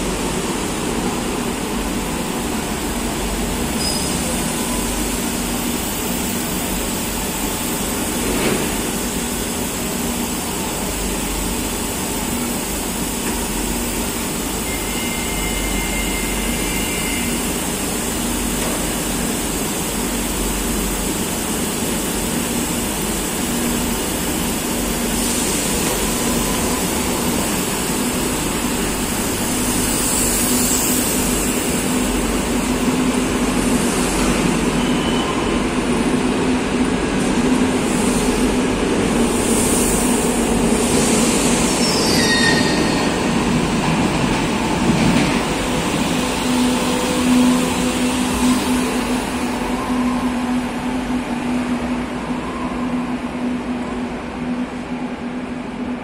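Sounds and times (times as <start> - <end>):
train equipment humming: 0.0 - 56.0
underground station noise: 0.0 - 56.0.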